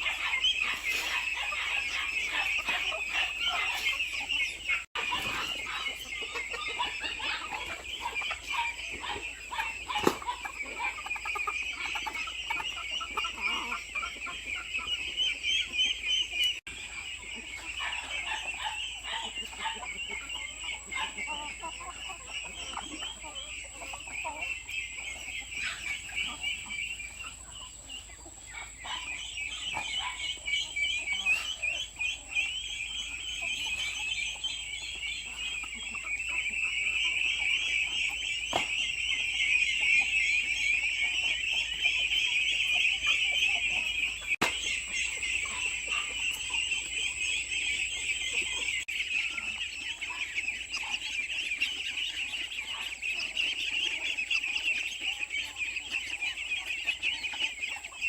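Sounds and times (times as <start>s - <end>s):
chickens clucking: 0.0s - 58.0s
high-pitched chirping chorus: 0.0s - 58.0s.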